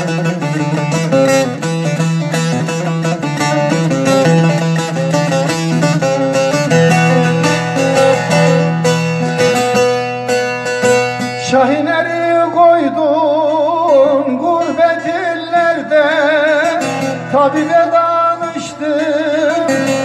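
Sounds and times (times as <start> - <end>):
fast plucked saz: 0.0 - 20.0.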